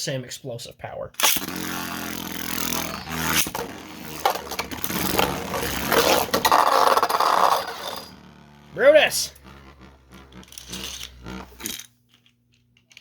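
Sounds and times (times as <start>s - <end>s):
spinning tops grinding scrape: 1.2s - 12.3s.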